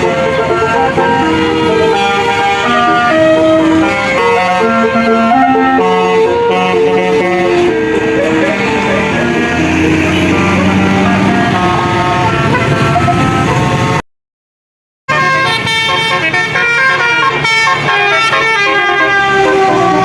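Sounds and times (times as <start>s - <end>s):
multi-trumpet bus horn melody: 0.0s - 14.0s, 15.1s - 20.0s.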